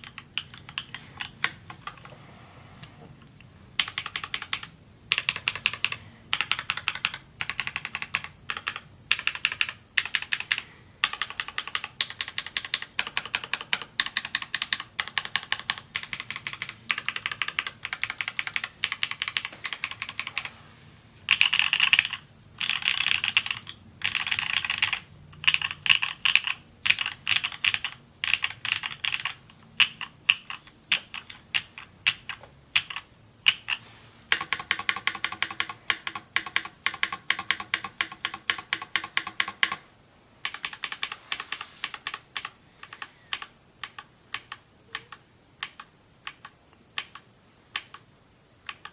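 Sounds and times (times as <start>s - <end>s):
mechanical keyboard typing: 0.0s - 2.1s, 3.8s - 20.5s, 21.3s - 48.9s.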